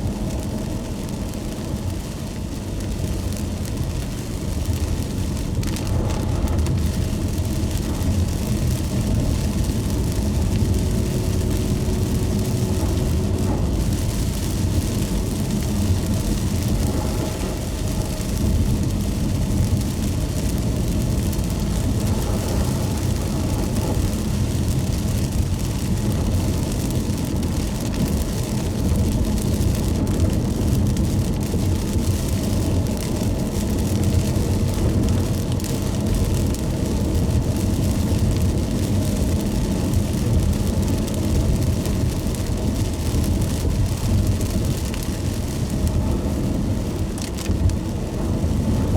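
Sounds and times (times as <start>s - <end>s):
rain hiss on wet road: 0.0s - 48.9s
road and engine rumble: 0.0s - 48.9s.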